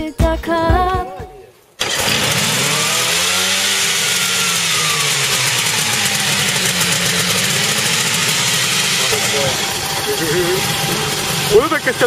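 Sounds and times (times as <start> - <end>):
helicopter engine running: 1.8 - 12.0.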